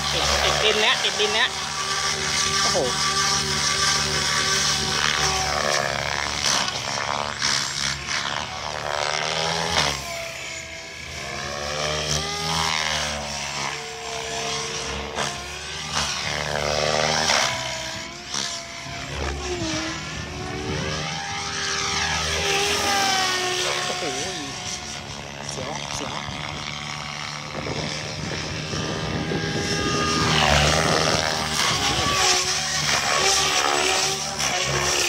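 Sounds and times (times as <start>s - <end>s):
helicopter rotor and motor whine: 0.0s - 35.0s.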